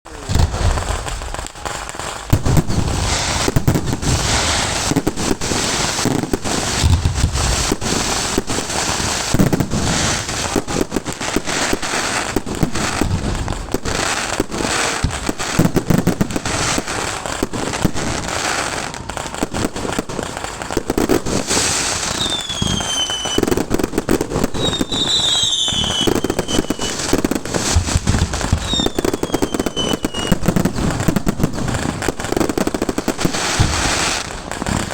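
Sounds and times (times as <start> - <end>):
fireworks bangs and crackling: 0.0 - 34.9
fireworks falling whistles: 0.1 - 34.9.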